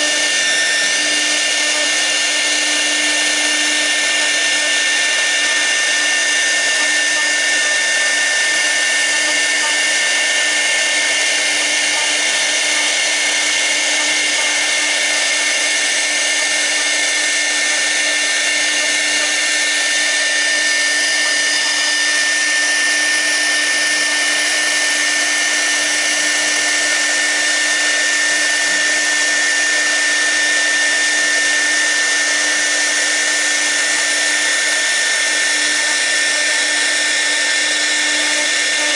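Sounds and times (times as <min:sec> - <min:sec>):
router spindle whining: 0:00.0 - 0:38.9.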